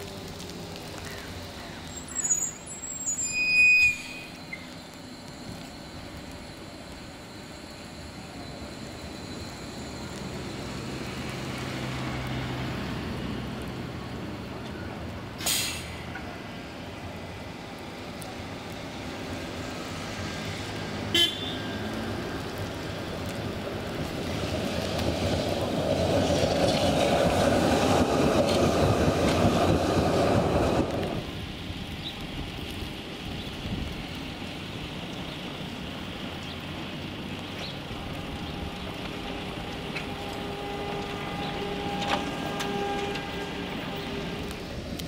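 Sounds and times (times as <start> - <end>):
bus whine: 0.0 - 45.0
street noise: 0.0 - 45.0
trolleybus pulling away: 0.0 - 45.0.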